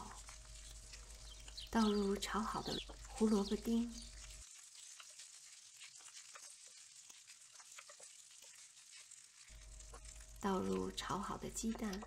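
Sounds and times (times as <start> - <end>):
faint sizzle of rice frying: 0.0 - 12.0.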